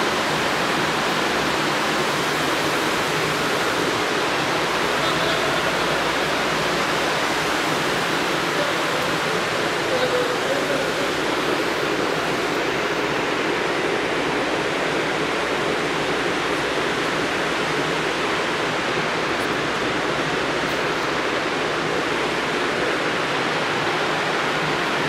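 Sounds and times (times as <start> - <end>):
loud steady rushing noise: 0.0 - 25.0.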